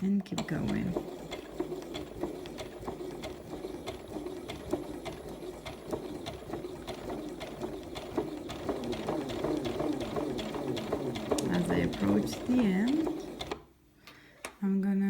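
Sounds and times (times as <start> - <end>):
sewing machine running: 0.0 - 13.7.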